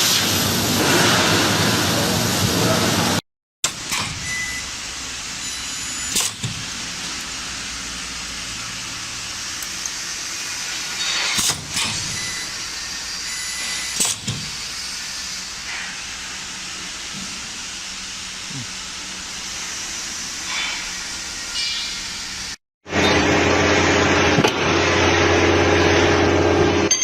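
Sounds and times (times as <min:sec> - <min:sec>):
steady machine noise: 0:00.0 - 0:27.0.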